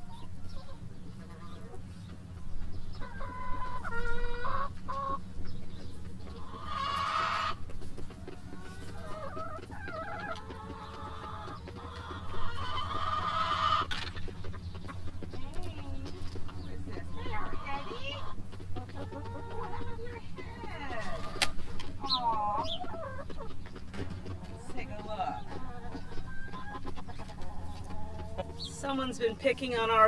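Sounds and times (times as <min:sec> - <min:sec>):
hens clucking: 0:00.0 - 0:30.0
steady low hum: 0:00.0 - 0:30.0.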